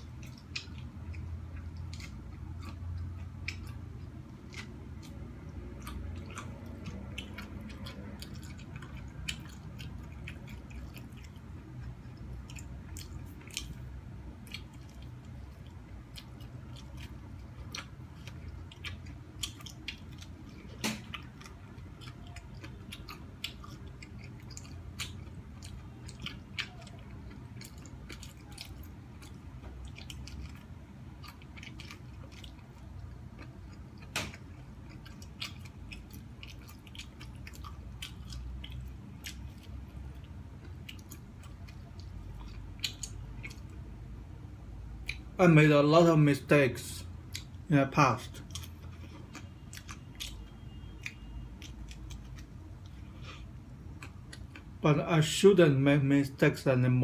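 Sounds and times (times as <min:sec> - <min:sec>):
person eating corn on the cob: 0:00.0 - 0:43.8, 0:47.3 - 0:54.8.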